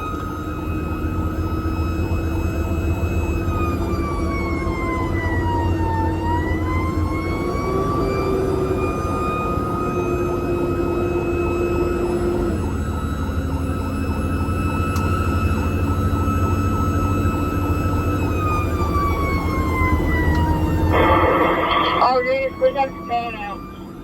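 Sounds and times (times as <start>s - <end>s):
fire engine running: 0.0s - 24.0s.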